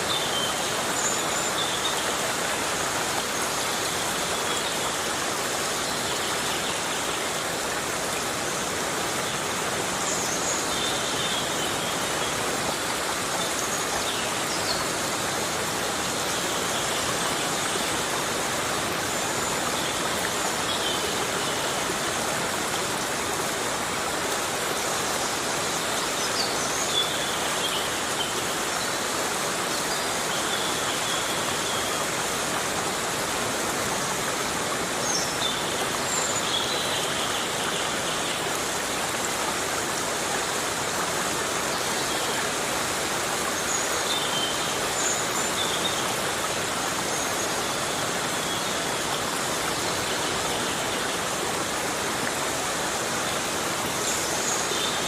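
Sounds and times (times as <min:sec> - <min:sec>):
heavy rain on forest: 0:00.0 - 0:55.0.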